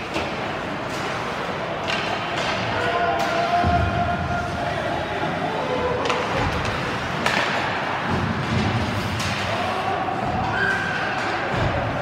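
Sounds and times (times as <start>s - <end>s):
hockey sticks and puck knocking: 0.0s - 3.9s, 6.0s - 12.0s
ice rink crowd din: 0.0s - 12.0s.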